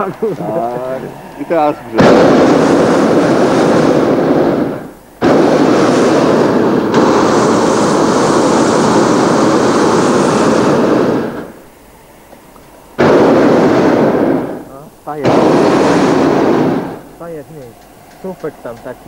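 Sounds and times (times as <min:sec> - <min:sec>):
propane burner blasting: 0:00.0 - 0:19.0.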